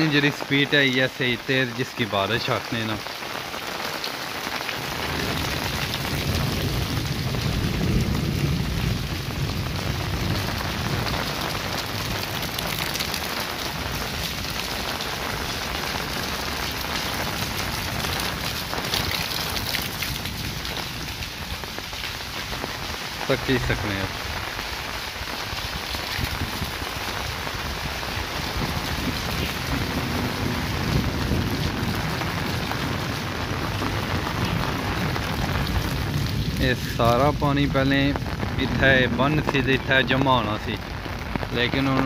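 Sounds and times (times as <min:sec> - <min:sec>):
heavy rain on concrete: 0:00.0 - 0:42.0.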